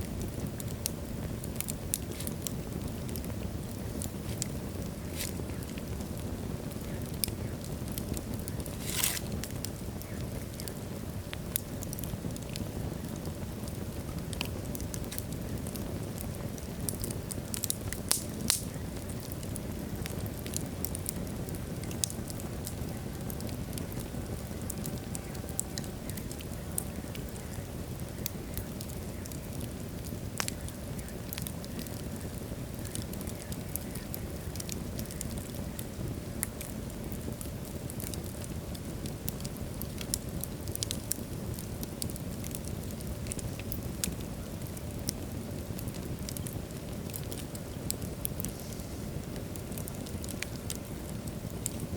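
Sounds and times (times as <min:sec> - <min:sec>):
fire flames rumbling: 0:00.0 - 0:51.9
logs crackling and popping: 0:00.0 - 0:51.9.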